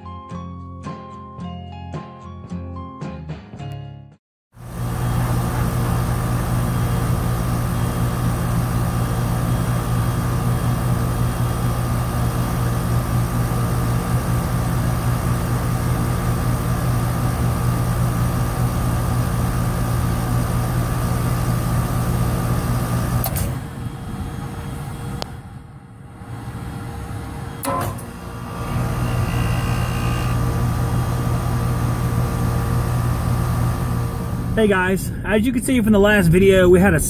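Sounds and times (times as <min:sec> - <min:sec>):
heat pump compressor hum: 0:04.6 - 0:36.2.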